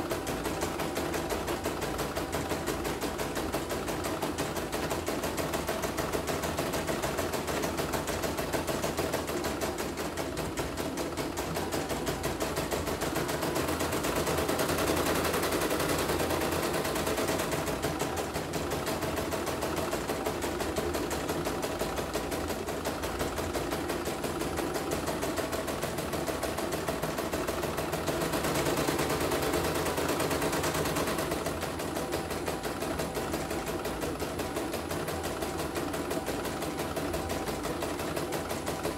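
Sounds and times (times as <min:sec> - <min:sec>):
embroidery machine stitching: 0:00.0 - 0:38.9.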